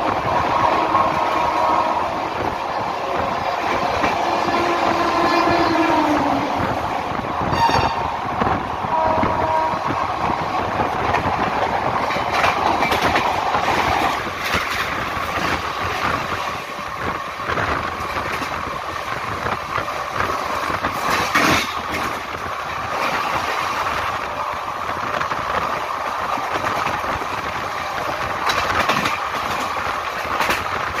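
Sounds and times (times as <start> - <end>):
wheels clacking over rail joints: 0.0 - 9.6, 10.4 - 31.0
train wheels rumbling on rails: 0.0 - 31.0
wind: 0.0 - 31.0.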